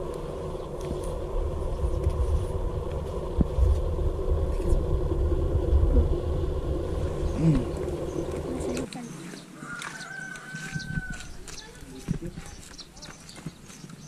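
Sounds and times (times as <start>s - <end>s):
wind buffeting microphone: 0.0s - 9.0s, 10.6s - 13.6s.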